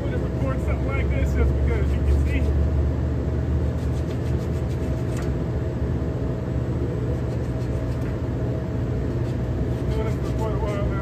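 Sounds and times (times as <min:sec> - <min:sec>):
faint steady whine: 0:00.0 - 0:11.0
hvac equipment humming: 0:00.0 - 0:11.0.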